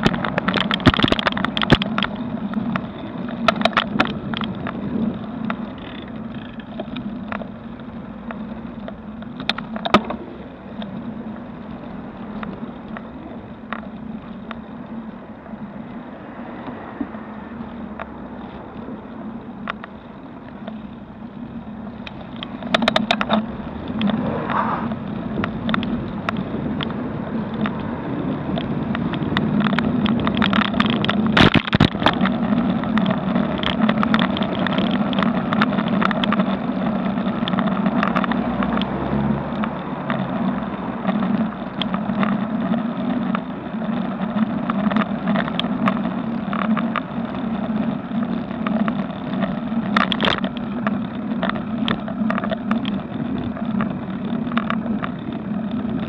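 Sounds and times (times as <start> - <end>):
rattling clicks: 0.0 - 11.0, 17.6 - 56.0
vehicle hum: 0.0 - 56.0.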